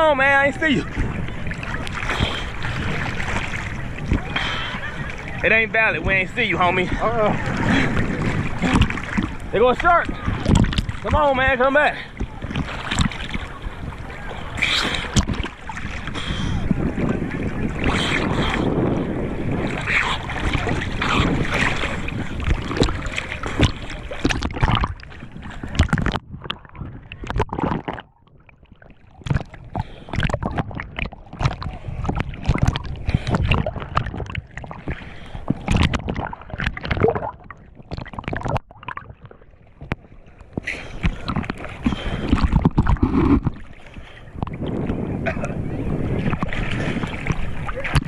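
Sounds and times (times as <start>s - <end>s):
water splashing from swimming: 0.0s - 48.0s
wind noise: 0.0s - 48.0s.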